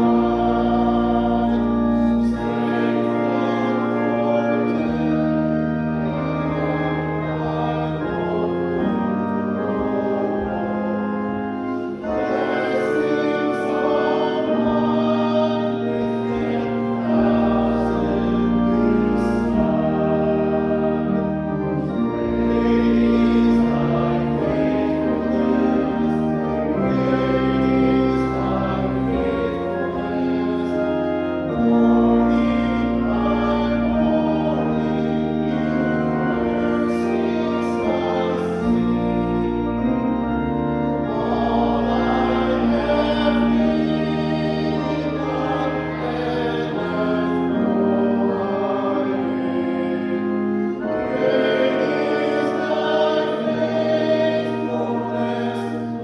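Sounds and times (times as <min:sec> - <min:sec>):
organ chords: 0:00.0 - 0:56.0
voices singing a hymn: 0:00.0 - 0:56.0.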